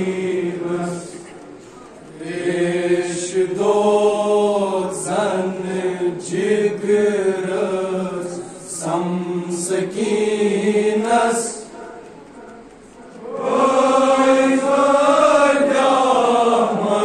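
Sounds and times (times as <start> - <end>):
voices chanting a lament: 0.0 - 17.0.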